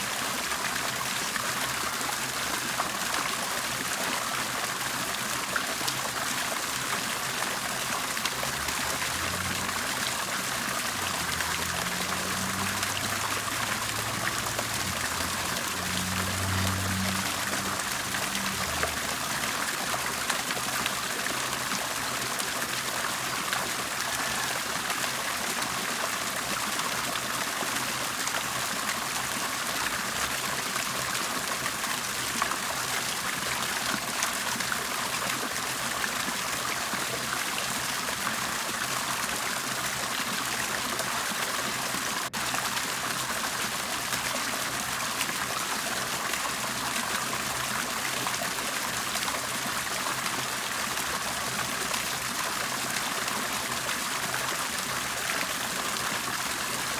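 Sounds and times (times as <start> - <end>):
water bubbling and trickling: 0.0 - 56.9.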